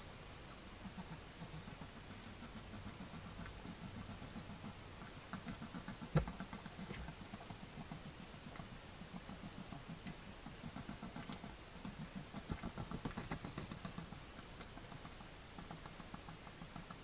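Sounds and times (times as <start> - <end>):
hedgehog snuffling and chewing: 0.0 - 17.0.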